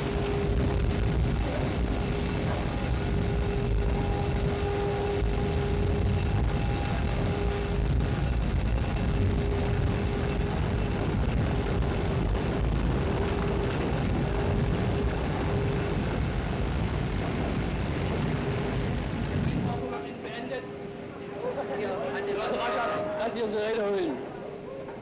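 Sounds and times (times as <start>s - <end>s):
droning hum: 0.0s - 25.0s
machinery rumble and hiss: 0.0s - 25.0s.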